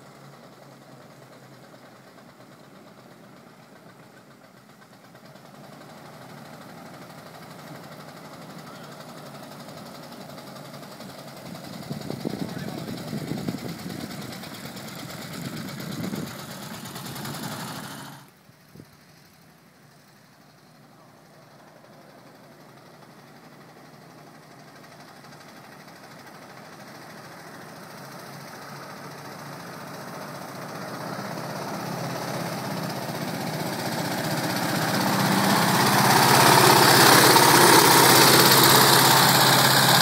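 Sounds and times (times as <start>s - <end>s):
old car engine passing by: 0.0s - 40.0s.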